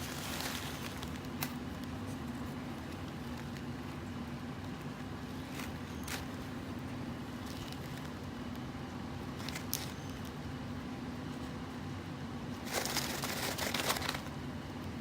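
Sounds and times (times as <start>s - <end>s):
rustling handling noise: 0.0s - 10.4s, 12.5s - 14.5s
low room hum: 0.0s - 15.0s.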